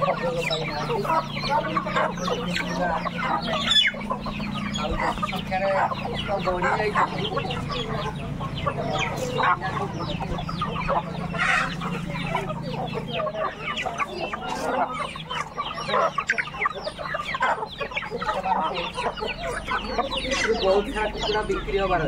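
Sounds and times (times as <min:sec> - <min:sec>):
chickens clucking and cheeping: 0:00.0 - 0:22.0.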